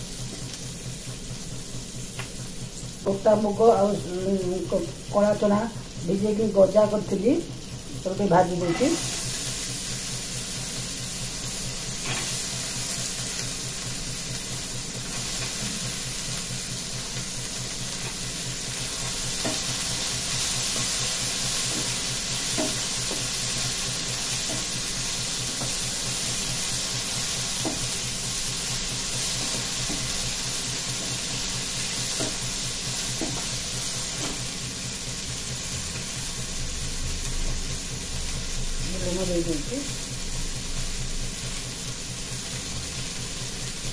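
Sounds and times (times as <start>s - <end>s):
beans sizzling in hot oil: 0.0s - 43.9s.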